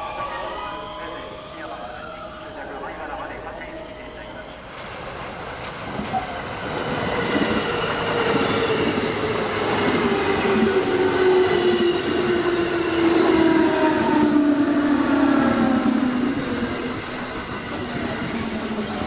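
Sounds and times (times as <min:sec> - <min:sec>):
electric train rolling on rails: 0:00.0 - 0:19.0.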